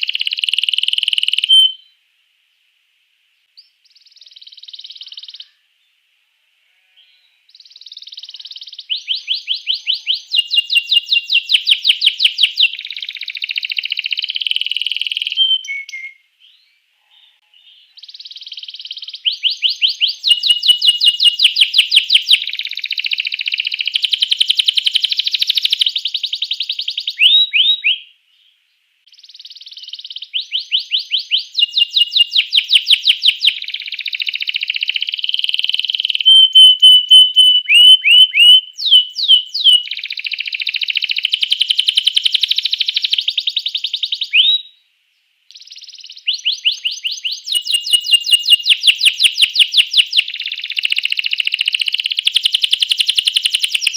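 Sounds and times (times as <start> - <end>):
canary singing trills: 0.0 - 2.0, 3.6 - 5.7, 6.7 - 44.8, 45.5 - 53.9.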